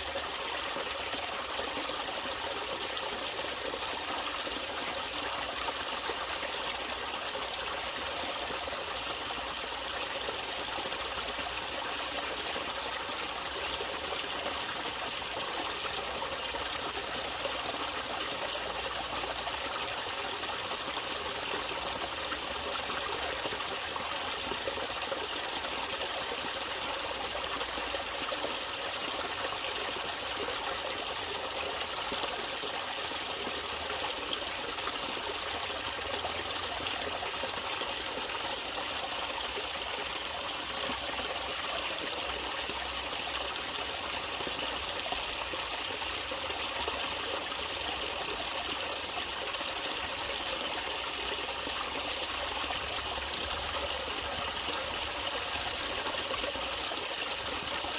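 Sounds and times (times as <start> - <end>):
stream water trickling: 0.0 - 57.9.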